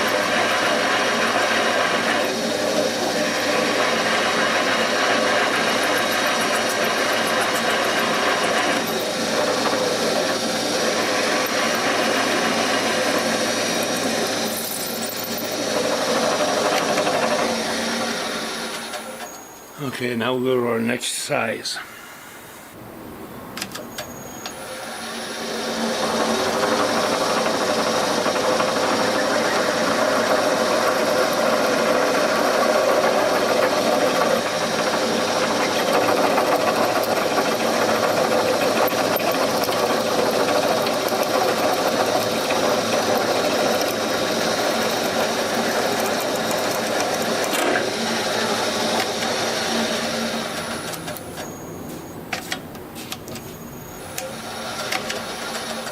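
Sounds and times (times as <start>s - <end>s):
drill bit cutting chatter: 0.0s - 19.8s, 24.0s - 51.8s
drill motor whirring: 0.0s - 19.8s, 23.6s - 52.3s, 53.1s - 55.9s.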